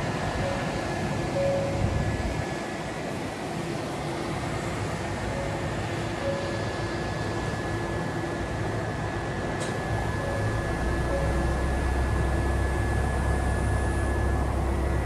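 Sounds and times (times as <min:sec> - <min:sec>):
thin high whine: 0:00.0 - 0:02.7, 0:03.6 - 0:15.0
train equipment humming: 0:00.0 - 0:15.0.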